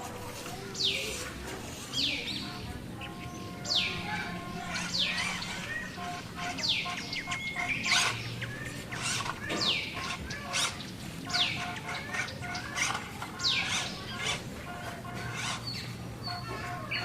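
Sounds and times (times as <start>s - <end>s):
bird chirps: 0.7s - 17.0s.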